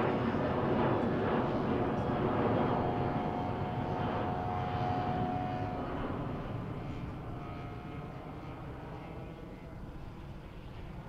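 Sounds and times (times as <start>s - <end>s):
model plane engine droning: 0.0s - 11.0s.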